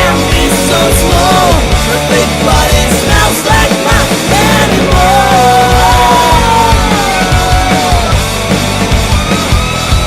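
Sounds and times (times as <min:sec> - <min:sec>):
rock band playing loud: 0:00.0 - 0:10.0.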